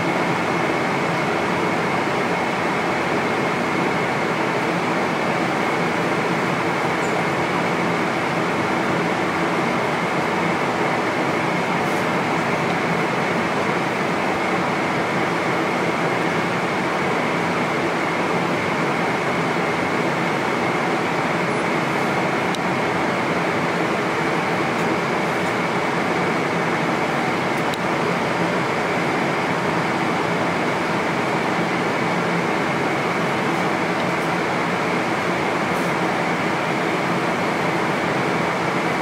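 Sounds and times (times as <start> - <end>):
airplane cabin noise: 0.0 - 39.0.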